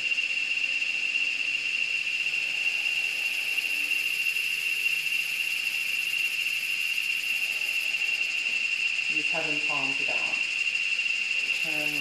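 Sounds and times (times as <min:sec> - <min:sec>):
steady high-pitched whine: 0:00.0 - 0:12.0.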